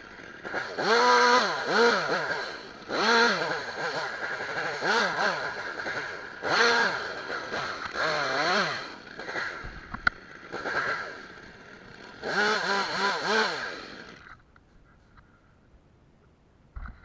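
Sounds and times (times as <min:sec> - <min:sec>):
chainsaw revving: 0:00.0 - 0:14.4.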